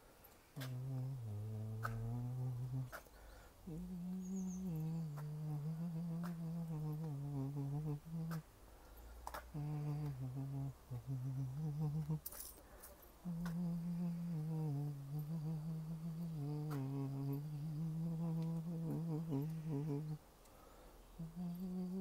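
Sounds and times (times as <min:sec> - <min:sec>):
person humming a slow tune: 0:00.6 - 0:08.5, 0:09.4 - 0:12.6, 0:13.2 - 0:20.2, 0:21.1 - 0:22.0.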